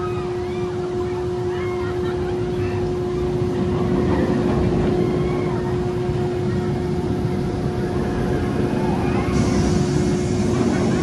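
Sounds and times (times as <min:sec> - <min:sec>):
roller coaster lift chain hum: 0:00.0 - 0:11.0.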